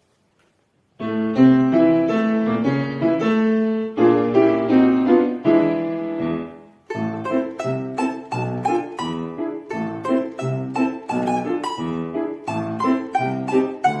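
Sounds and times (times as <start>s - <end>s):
piano chords: 1.0s - 14.0s.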